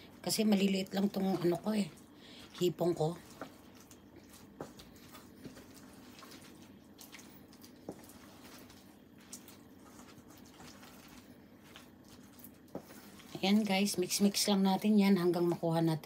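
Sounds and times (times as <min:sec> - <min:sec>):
batter squelching in bowl: 0:00.0 - 0:15.6.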